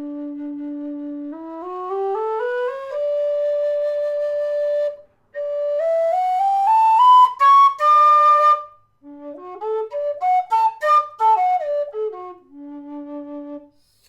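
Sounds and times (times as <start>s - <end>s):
low whistle playing a scale: 0.0s - 14.0s.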